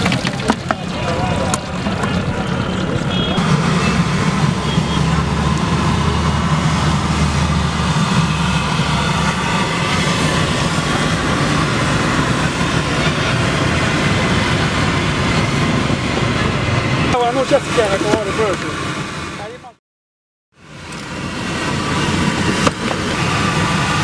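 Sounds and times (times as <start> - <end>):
street traffic din: 0.0 - 19.8, 20.6 - 24.0.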